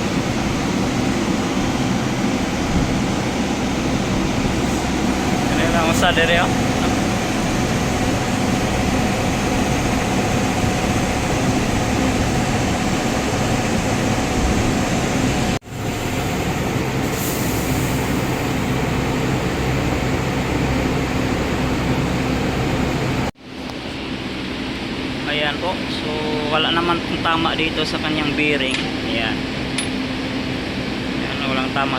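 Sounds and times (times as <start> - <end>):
machine running hum: 0.0 - 31.9.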